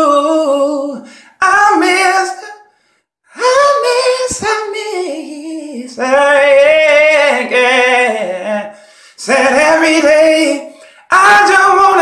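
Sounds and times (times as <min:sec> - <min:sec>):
man singing a cappella: 0:00.0 - 0:12.0.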